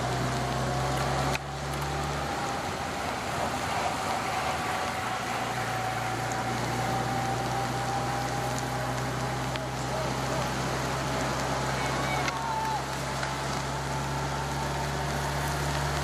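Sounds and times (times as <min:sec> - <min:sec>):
tyres hissing on wet road: 0:00.0 - 0:16.0
vehicle engine humming: 0:00.0 - 0:16.0.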